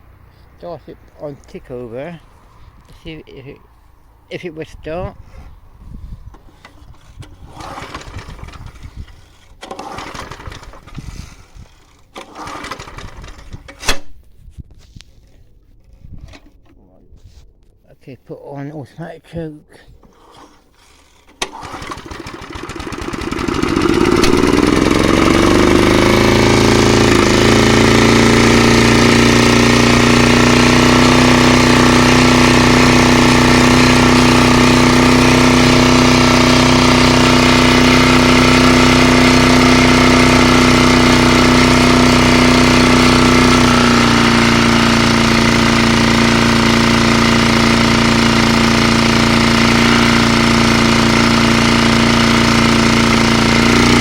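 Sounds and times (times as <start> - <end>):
lawnmower engine running: 0.0 - 14.0, 20.0 - 54.0.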